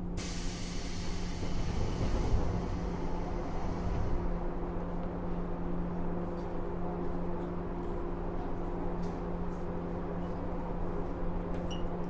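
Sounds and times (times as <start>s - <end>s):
train electrical hum: 0.0s - 12.0s.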